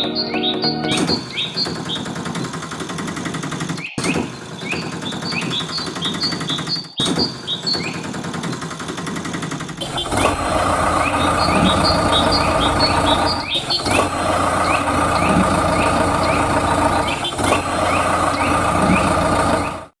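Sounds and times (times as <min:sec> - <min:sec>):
engine-like running sound: 0:00.9 - 0:20.0.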